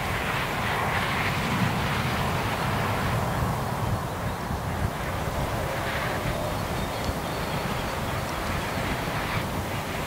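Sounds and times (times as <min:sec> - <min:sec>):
motorway traffic hum: 0:00.0 - 0:10.0.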